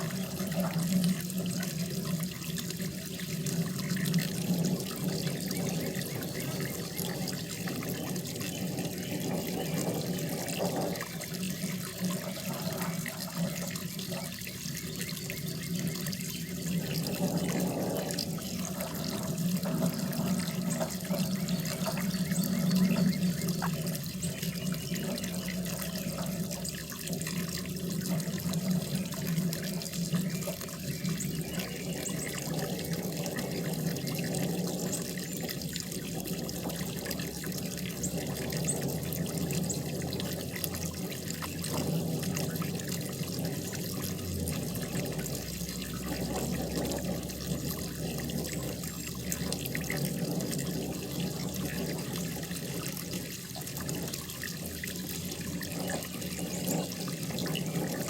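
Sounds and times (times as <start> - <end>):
flowing water splashing: 0.0 - 58.0.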